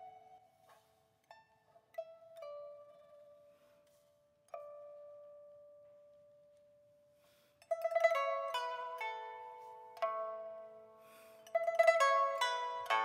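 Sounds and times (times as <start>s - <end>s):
plucked lute notes: 0.0s - 3.6s, 4.4s - 6.8s, 7.6s - 13.0s.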